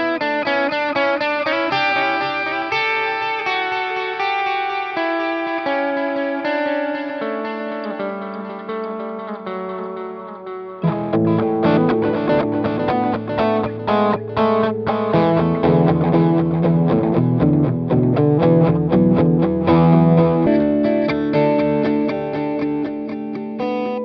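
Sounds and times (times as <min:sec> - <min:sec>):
electric guitar through amp: 0:00.0 - 0:24.0.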